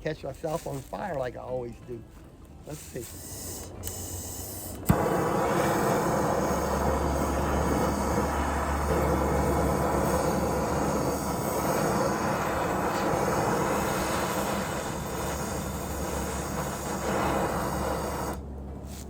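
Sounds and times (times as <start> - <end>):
gas torch roaring: 2.7 - 19.0.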